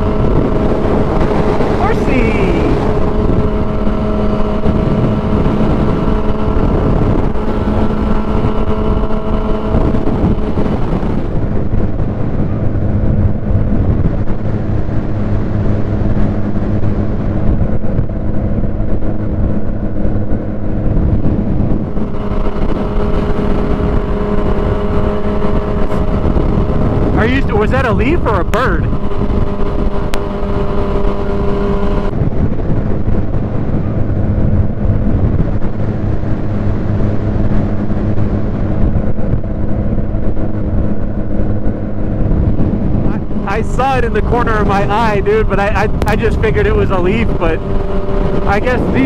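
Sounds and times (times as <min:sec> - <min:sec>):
motorcycle engine cruising: 0:00.0 - 0:49.0.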